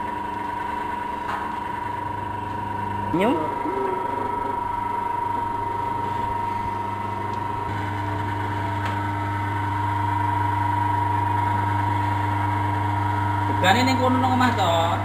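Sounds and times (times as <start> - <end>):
machine motor hum: 0.0 - 15.0.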